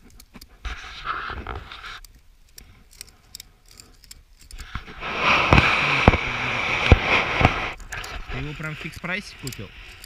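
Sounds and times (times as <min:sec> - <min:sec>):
light clicks and scrapes: 0:00.0 - 0:10.0.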